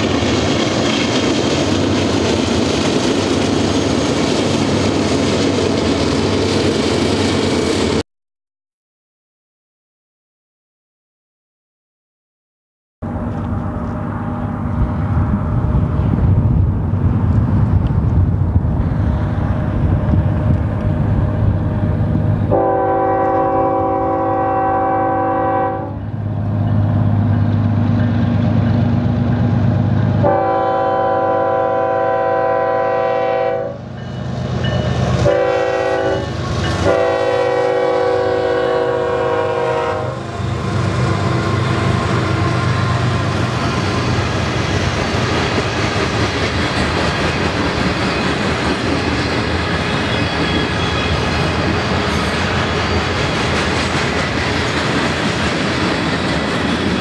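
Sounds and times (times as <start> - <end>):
diesel locomotive engines: 0.0 - 8.0, 13.0 - 57.0
train wheels on rails: 0.0 - 8.0, 13.0 - 57.0.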